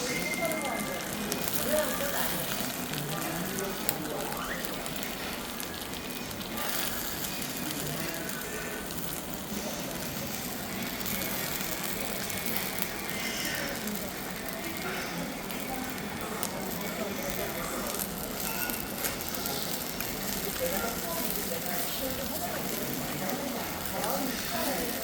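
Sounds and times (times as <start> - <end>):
faint voices: 0.0 - 25.0
wood fire crackling: 0.0 - 25.0.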